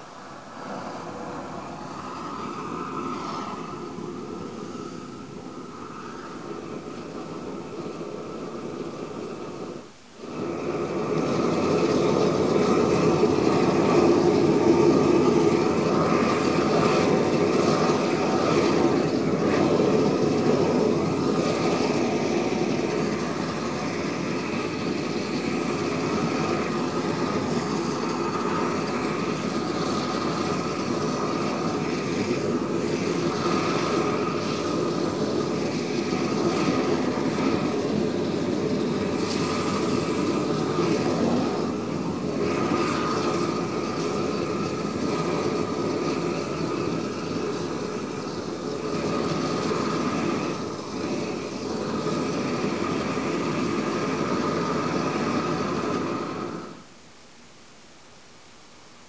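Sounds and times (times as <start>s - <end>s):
gas torch flame rushing: 0.0s - 56.9s.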